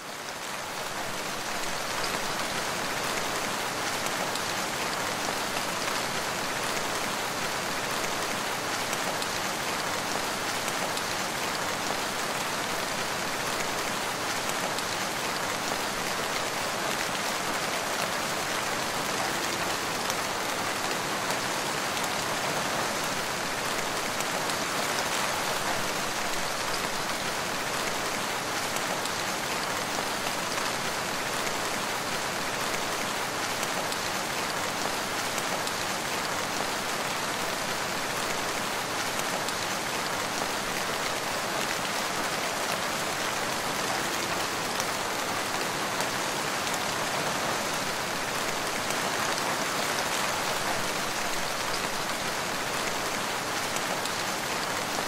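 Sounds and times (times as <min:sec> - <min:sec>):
rain pattering on leaves: 0:00.1 - 0:55.0.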